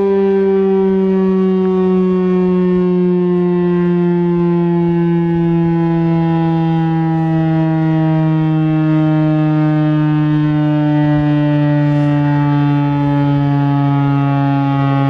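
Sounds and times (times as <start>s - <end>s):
tornado siren wailing: 0.0s - 15.0s.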